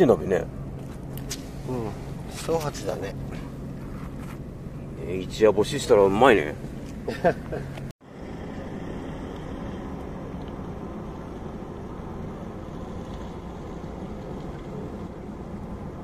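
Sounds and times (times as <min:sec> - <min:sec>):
outdoor low rumble: 0:00.0 - 0:16.0.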